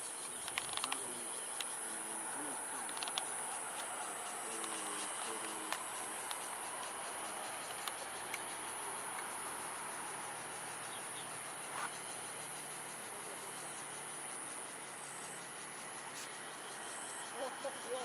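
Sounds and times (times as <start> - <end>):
background hiss: 0.0 - 18.0
insects trilling: 0.0 - 18.0.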